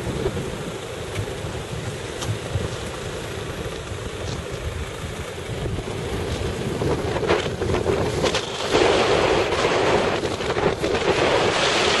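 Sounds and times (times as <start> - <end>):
boat engine humming: 0.0 - 10.9
wind buffeting microphone: 0.0 - 12.0.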